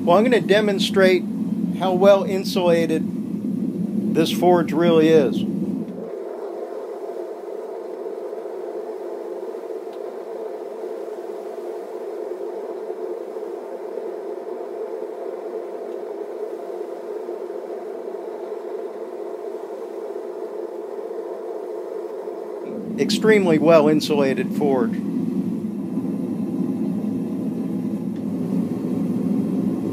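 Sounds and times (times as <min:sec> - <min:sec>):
forge burner rushing: 0:00.0 - 0:29.9.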